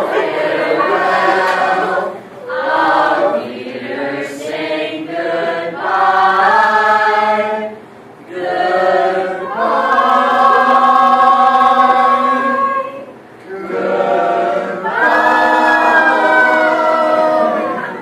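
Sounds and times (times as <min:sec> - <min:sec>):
voices singing in harmony: 0:00.0 - 0:18.0.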